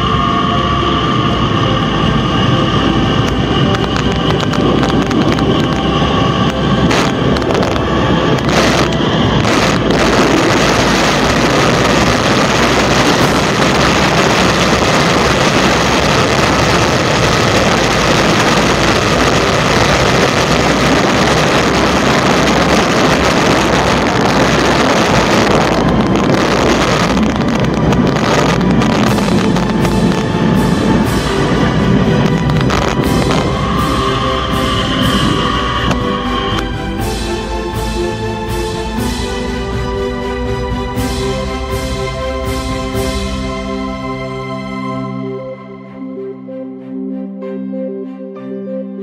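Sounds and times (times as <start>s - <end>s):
wind buffeting microphone: 0.0s - 44.0s
zipline trolley whirring on cable: 0.0s - 45.8s.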